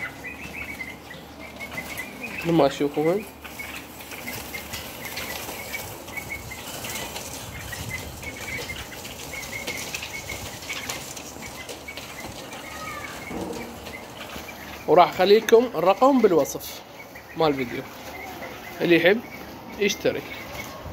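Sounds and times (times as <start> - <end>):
sliding bird call: 0.0 - 20.8
birds fluttering in wire cages: 0.0 - 20.9.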